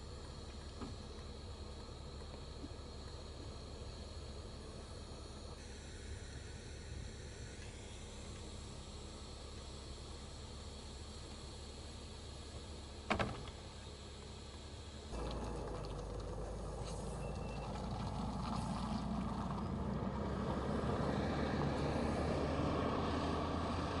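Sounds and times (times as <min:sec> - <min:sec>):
armored vehicle diesel engine: 0:00.0 - 0:24.0.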